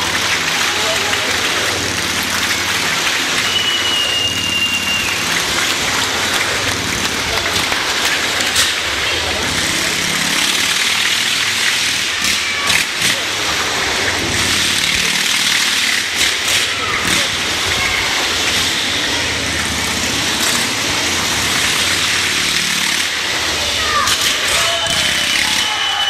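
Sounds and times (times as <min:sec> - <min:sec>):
motorcycle engine running hard: 0:00.0 - 0:26.0.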